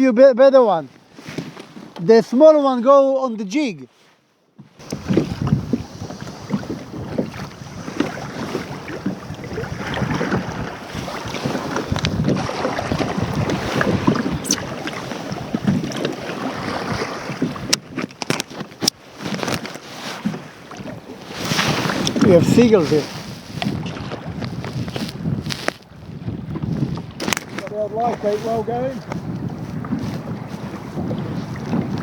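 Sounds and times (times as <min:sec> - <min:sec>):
water slapping against kayak hull: 0:00.9 - 0:02.5, 0:04.6 - 0:32.0
wind buffeting microphone: 0:04.8 - 0:32.0.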